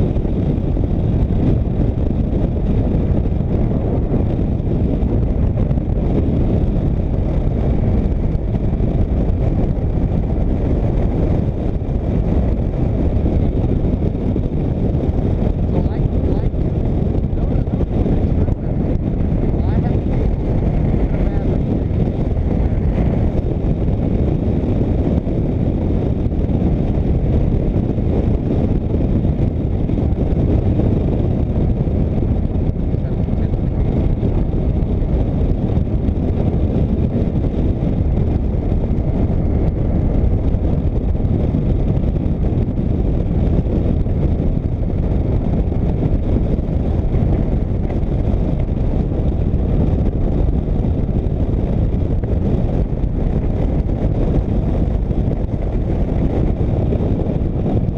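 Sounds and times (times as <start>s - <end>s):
motorcycle cruising: 0.0s - 57.9s
wind noise on microphone: 0.0s - 57.9s.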